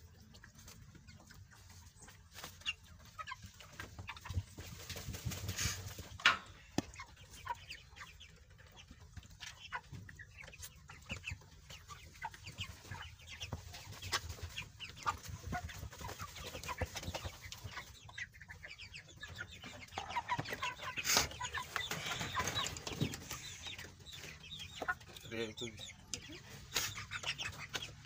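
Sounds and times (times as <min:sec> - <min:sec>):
chickens clucking and peeping: 0:00.0 - 0:28.0.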